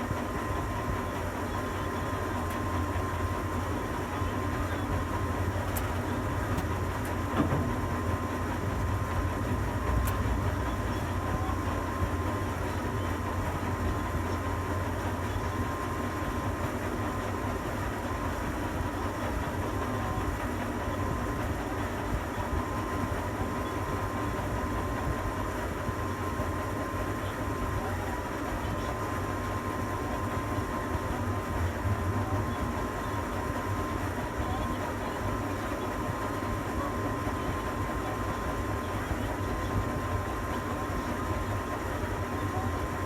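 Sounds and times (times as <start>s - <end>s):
thin steady whine: 0.0s - 43.0s.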